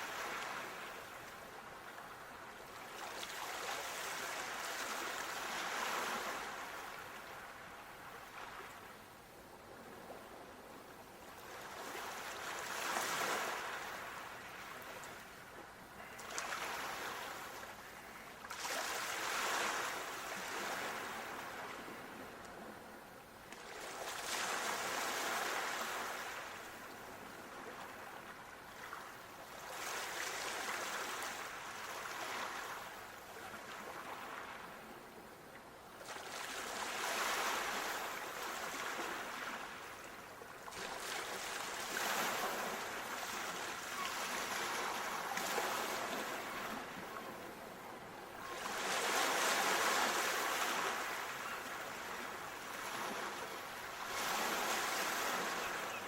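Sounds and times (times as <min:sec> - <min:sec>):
sea waves washing ashore: 0:00.0 - 0:09.1, 0:09.7 - 0:35.0, 0:35.9 - 0:56.0.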